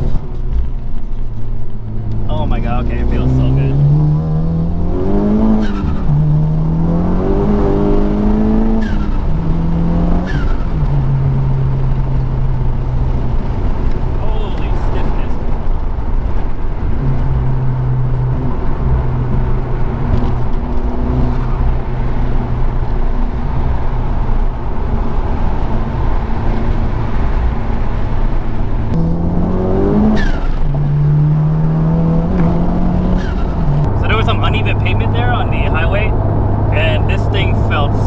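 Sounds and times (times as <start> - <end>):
car engine revving: 0.0 - 38.0
road and tyre noise: 0.0 - 38.0.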